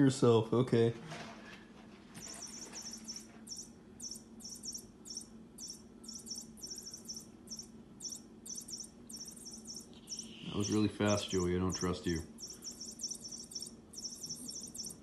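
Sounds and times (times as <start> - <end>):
electronic toy chirping: 2.2 - 15.0.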